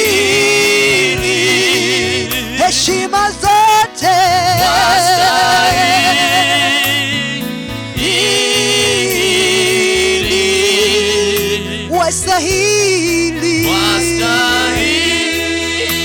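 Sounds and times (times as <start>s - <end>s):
instrumental backing with bass: 0.0s - 16.0s
person singing with vibrato: 0.0s - 16.0s.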